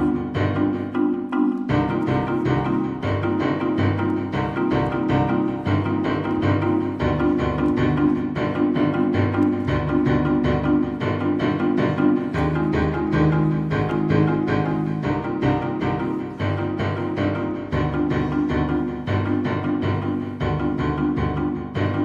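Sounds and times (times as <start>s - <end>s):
low bass line: 0.0s - 22.0s.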